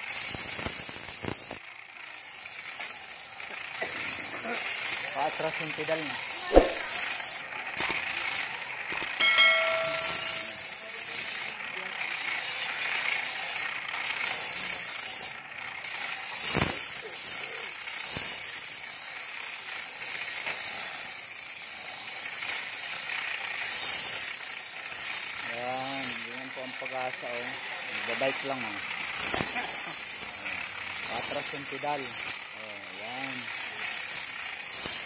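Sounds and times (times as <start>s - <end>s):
blade grinding on wheel: 0.0s - 35.0s.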